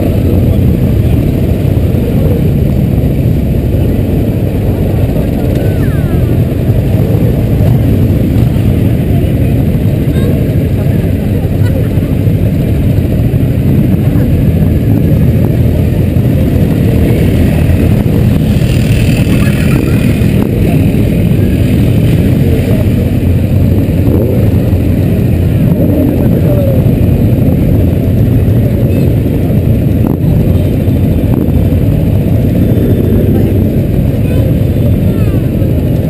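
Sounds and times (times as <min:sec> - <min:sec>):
motorcycle engines rumbling: 0:00.0 - 0:36.0.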